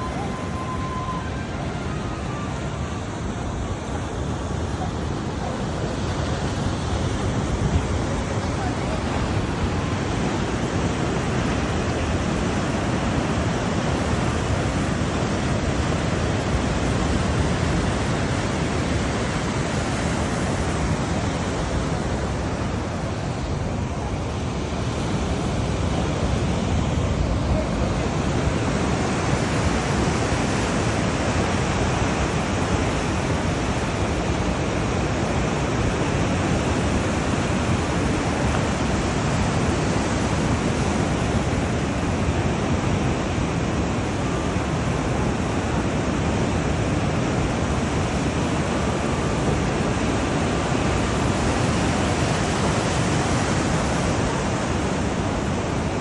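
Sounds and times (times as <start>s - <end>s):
surf rushing: 0.0s - 56.0s
wind: 0.0s - 56.0s.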